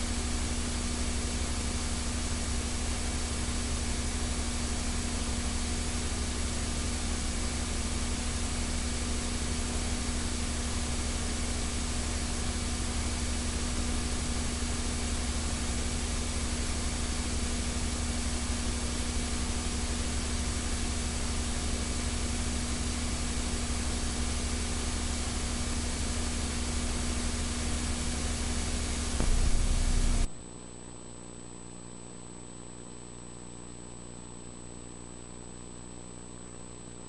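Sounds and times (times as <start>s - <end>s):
recording hiss: 0.0s - 30.3s
faint steady whines: 0.0s - 37.0s
low electrical hum: 0.0s - 37.0s.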